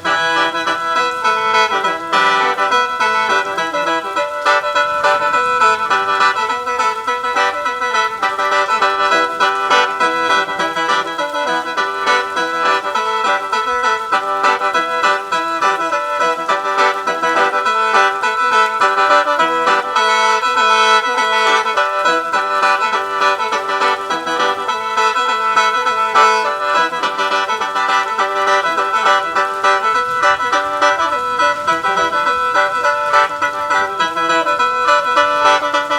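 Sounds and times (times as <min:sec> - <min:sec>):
free-reed mouth organ melody: 0:00.0 - 0:35.9.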